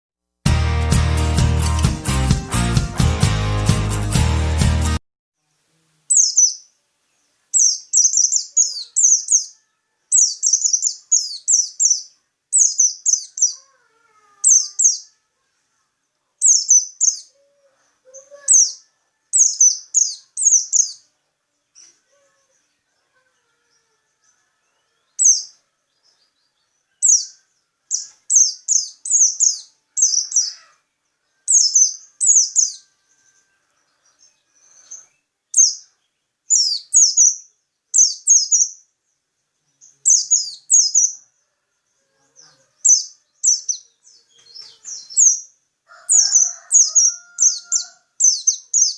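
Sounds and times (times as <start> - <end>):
songbird chirping: 0.8 - 48.9.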